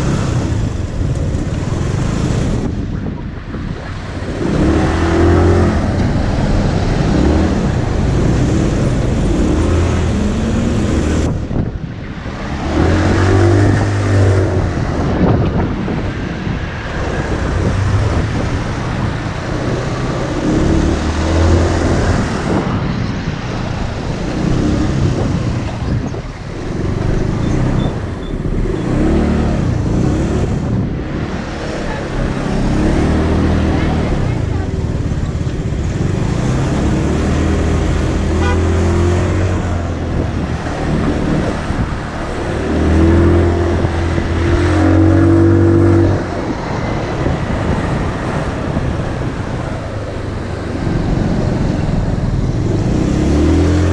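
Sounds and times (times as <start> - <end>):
motorcycle engine revving: 0.0 - 2.9, 3.8 - 53.9
wind and road noise: 0.0 - 53.9.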